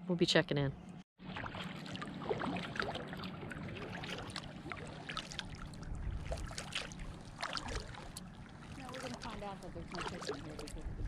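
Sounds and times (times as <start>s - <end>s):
water drips and splashes: 1.2s - 11.0s
water lapping against a kayak: 1.2s - 11.0s.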